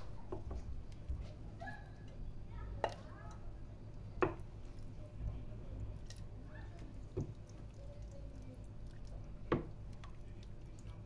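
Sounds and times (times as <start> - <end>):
wet stew squelching: 0.0 - 11.0.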